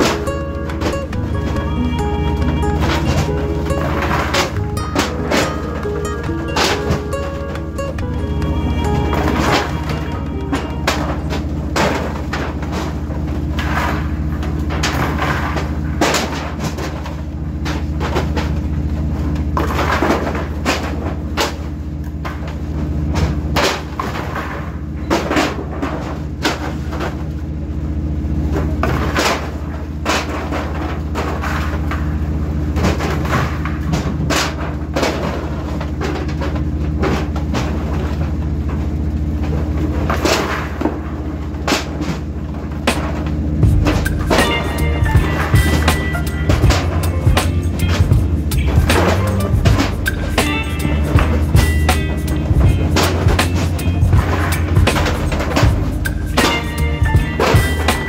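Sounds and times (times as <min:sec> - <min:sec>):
metal trays and frozen fish clattering: 0:00.0 - 0:01.7, 0:02.4 - 0:08.1, 0:09.1 - 0:58.0
low machinery hum: 0:00.0 - 0:58.0.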